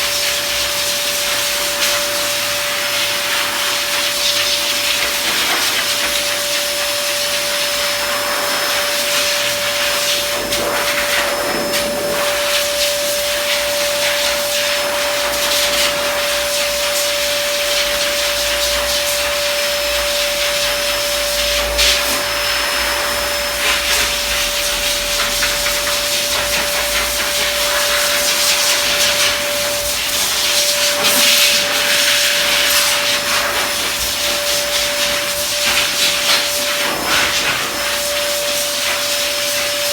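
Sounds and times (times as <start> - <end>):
pet dryer blowing air: 0.0 - 39.9.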